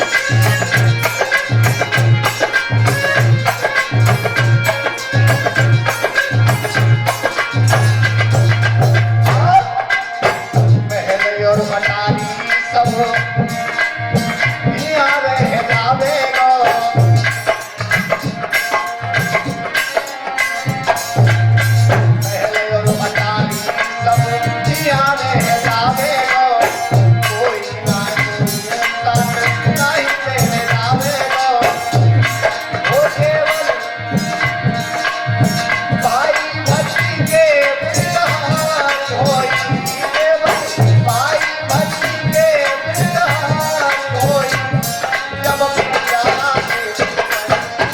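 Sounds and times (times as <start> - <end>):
hand drum rhythm: 0.0 - 47.9
jingling percussion: 0.0 - 47.9.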